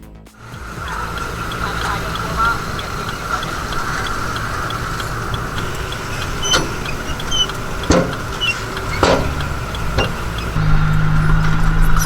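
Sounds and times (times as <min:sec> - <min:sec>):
heavy machine engine running: 0:00.4 - 0:12.0
sharp metal clanks: 0:00.5 - 0:10.6.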